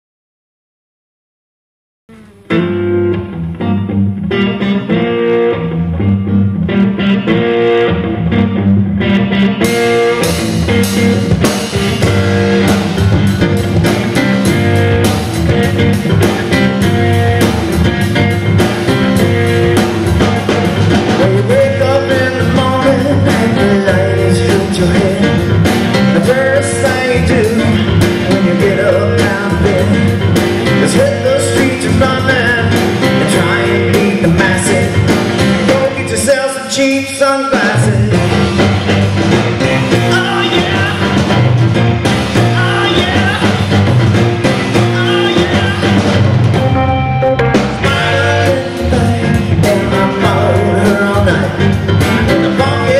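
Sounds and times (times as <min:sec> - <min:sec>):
blues-rock band playing: 0:02.1 - 0:52.9.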